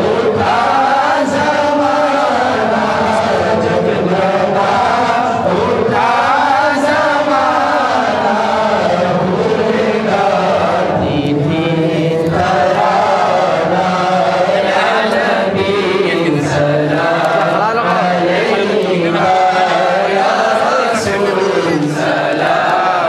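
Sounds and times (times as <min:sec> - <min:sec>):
crowd chanting: 0:00.0 - 0:23.0.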